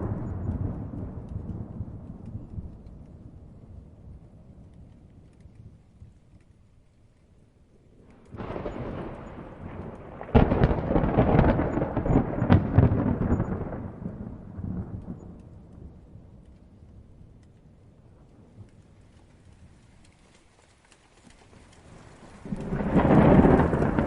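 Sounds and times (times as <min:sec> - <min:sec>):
thunder crack and rumble: 0:00.0 - 0:06.5, 0:07.9 - 0:20.2, 0:21.4 - 0:24.0.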